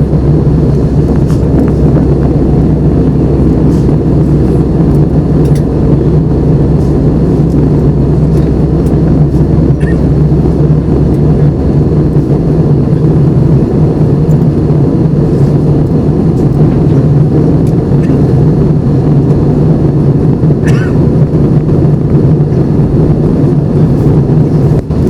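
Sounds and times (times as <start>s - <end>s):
loud rush of airflow: 0.0s - 25.0s
low engine hum: 0.0s - 25.0s.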